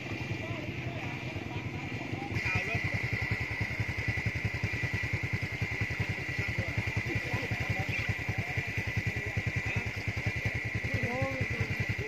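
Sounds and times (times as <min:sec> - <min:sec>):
small engine chugging: 0:00.0 - 0:12.0
high-pitched hum: 0:02.3 - 0:12.0.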